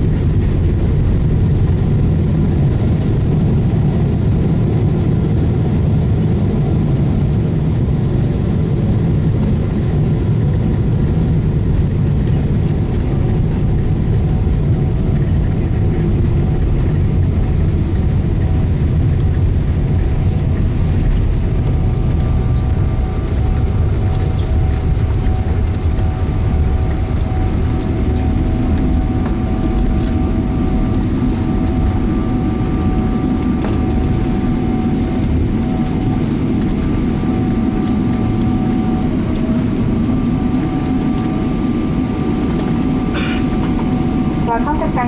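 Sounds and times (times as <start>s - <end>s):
aircraft cabin engine rumble: 0.0s - 45.0s
faint steady engine tones: 0.0s - 45.0s.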